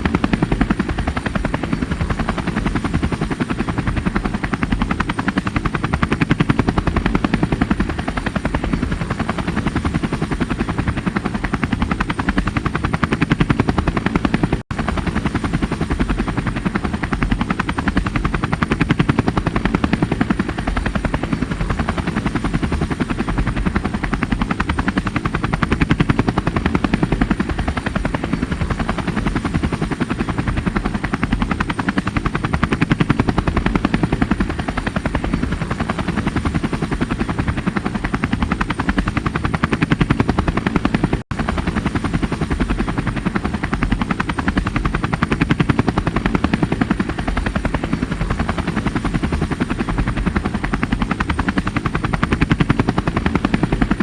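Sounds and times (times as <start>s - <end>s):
helicopter rotor chopping: 0.0s - 54.0s.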